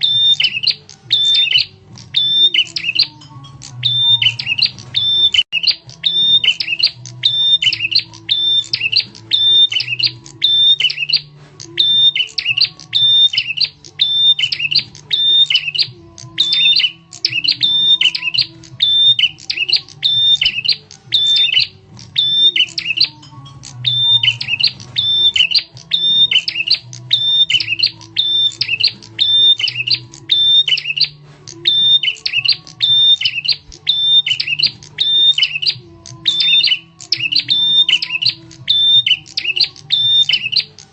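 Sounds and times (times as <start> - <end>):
prinia calling: 0.0 - 40.9.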